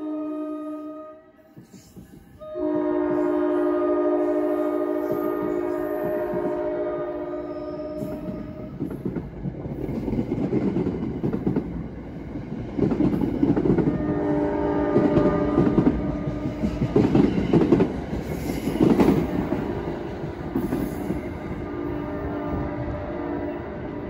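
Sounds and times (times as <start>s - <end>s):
train wheels rumbling on rails: 1.3s - 24.0s.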